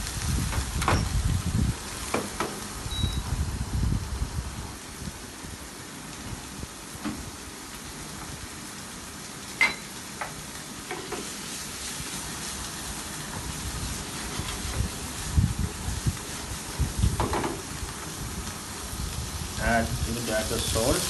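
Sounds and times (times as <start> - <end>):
mushrooms sizzling in a frying pan: 0.0 - 21.0.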